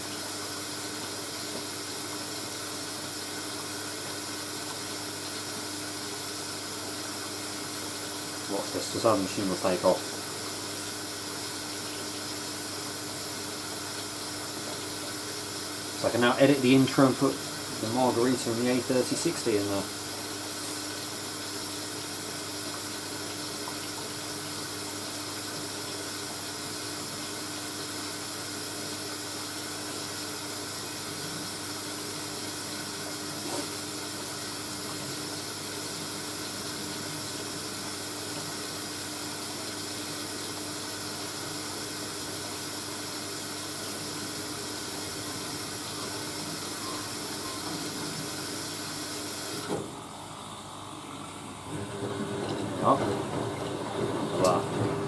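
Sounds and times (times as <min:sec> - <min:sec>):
washing machine water rushing: 0:00.0 - 0:55.0.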